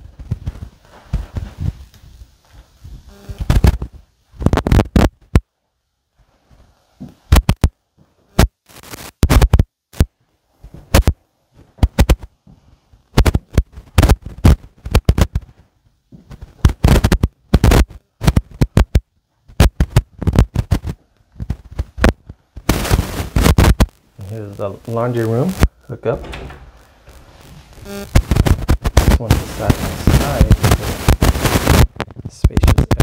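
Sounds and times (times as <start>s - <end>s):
microphone handling noise: 0.0s - 5.5s, 6.2s - 24.1s, 24.8s - 33.0s.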